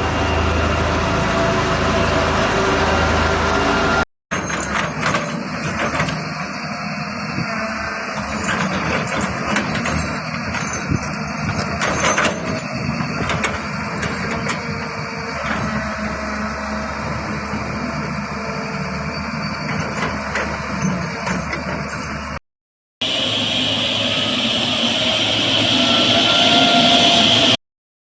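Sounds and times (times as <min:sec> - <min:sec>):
construction machinery engine: 0:00.0 - 0:22.4, 0:23.0 - 0:27.6.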